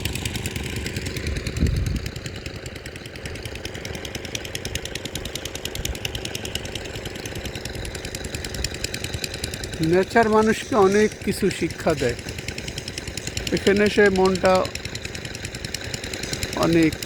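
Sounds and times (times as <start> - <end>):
engine running with rapid beat: 0.0 - 17.0.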